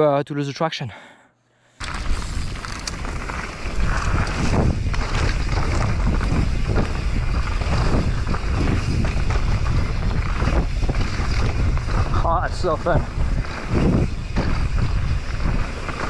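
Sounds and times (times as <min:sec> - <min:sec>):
bike knocking and rattling: 0:01.8 - 0:16.0
bike tyres on dirt: 0:01.8 - 0:16.0
wind buffeting microphone: 0:01.9 - 0:16.0.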